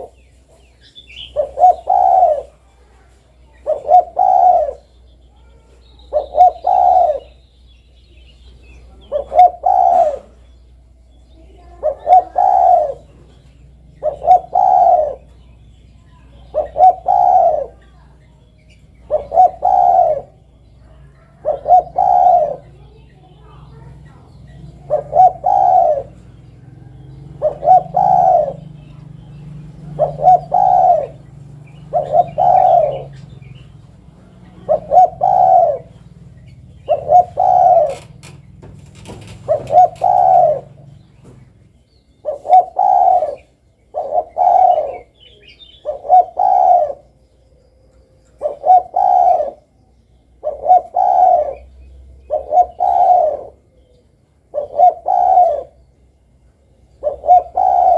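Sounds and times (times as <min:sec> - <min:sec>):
dove cooing: 0:00.0 - 0:07.9, 0:08.5 - 0:57.9.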